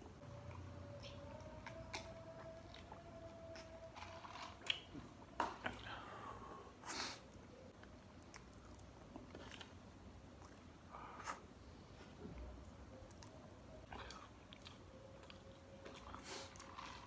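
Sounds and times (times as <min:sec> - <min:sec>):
person chewing food: 0:00.4 - 0:06.1, 0:07.8 - 0:17.0.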